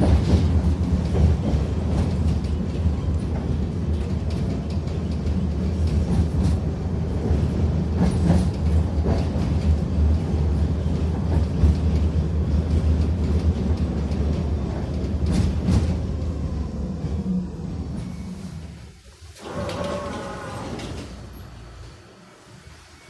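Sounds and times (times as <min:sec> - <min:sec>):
tram wheels rumbling: 0:00.0 - 0:23.0.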